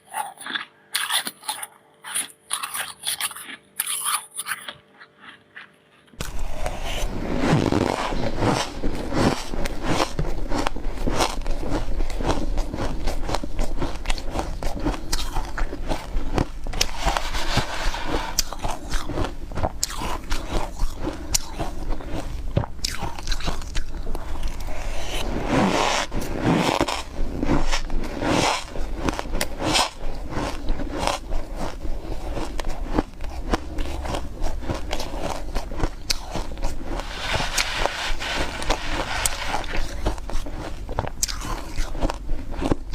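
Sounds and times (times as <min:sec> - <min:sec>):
person chewing ice: 0:00.0 - 0:42.9.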